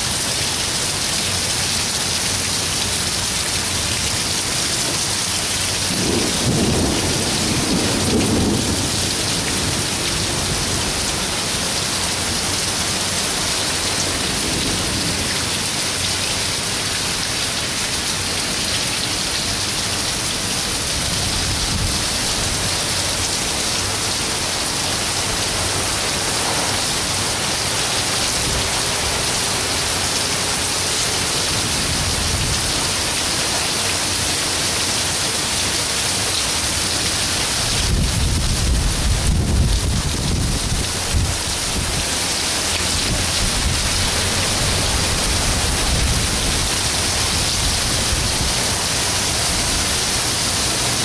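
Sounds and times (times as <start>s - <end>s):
heavy rain on pavement: 0.0s - 51.0s.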